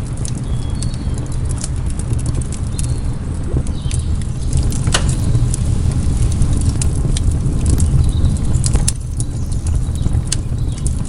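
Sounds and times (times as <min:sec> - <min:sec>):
campfire crackling and popping: 0:00.0 - 0:11.0
low fire rumble: 0:00.0 - 0:11.0.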